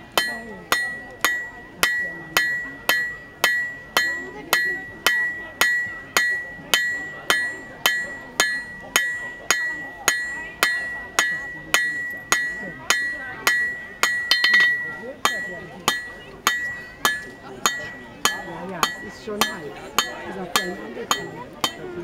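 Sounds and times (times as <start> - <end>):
hammer striking steel on anvil: 0.1 - 22.0.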